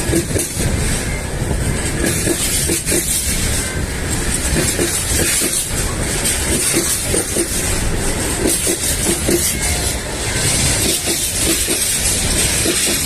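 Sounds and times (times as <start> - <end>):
freight train rumble and hiss: 0.0 - 13.0
wheels clicking over rail joints: 0.0 - 13.0.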